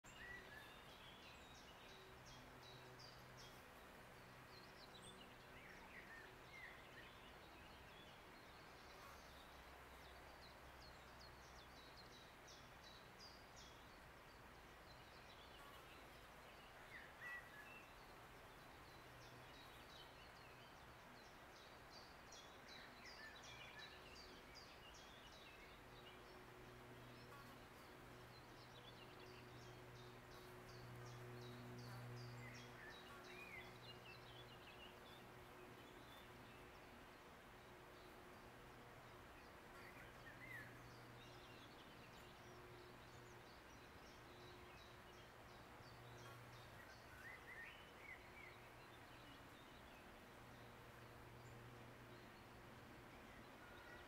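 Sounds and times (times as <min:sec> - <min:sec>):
small birds chirping: 0:00.0 - 0:54.0
steady outdoor hiss: 0:00.0 - 0:54.0
faint low hum: 0:00.1 - 0:54.0.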